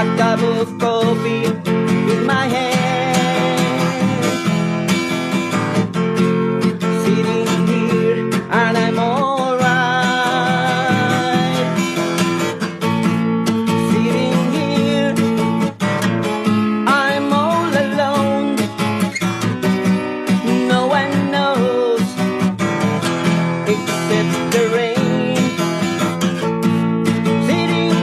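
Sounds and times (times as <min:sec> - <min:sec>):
acoustic guitar strummed chords: 0:00.0 - 0:28.0.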